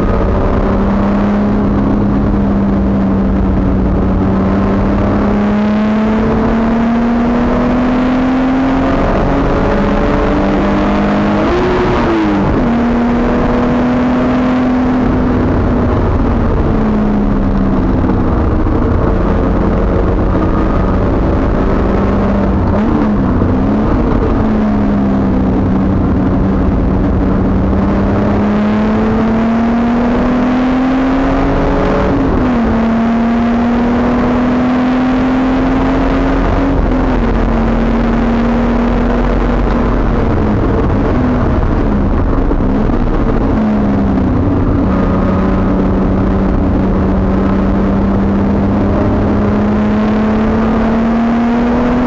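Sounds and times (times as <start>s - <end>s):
car engine pulling hard: 0.0s - 52.0s
road and wind noise: 0.0s - 52.0s.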